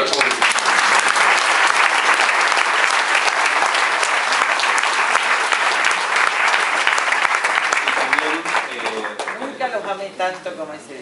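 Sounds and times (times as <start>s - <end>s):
crowd applauding: 0.0s - 9.7s.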